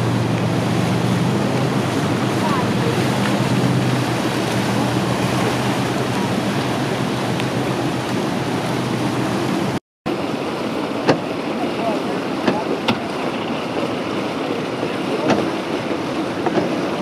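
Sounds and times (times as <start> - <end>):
motorboat engine hum: 0.0 - 17.0
wake water rushing: 0.0 - 17.0.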